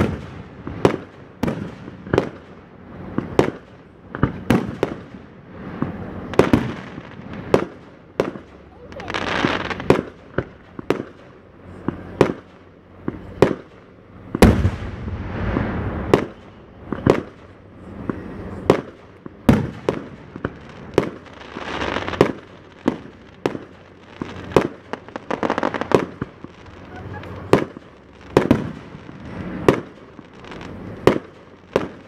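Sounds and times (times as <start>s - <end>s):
fireworks hiss: 0.0s - 12.5s, 13.1s - 32.0s
fireworks bangs: 0.0s - 32.0s.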